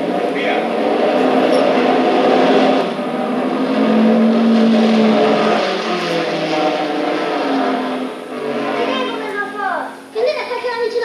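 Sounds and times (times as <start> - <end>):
racing car engine over loudspeakers: 0.0 - 10.1.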